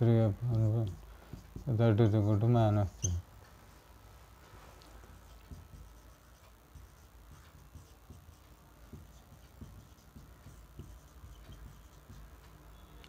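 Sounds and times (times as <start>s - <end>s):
marker writing on whiteboard: 0.4s - 3.2s, 5.1s - 12.9s.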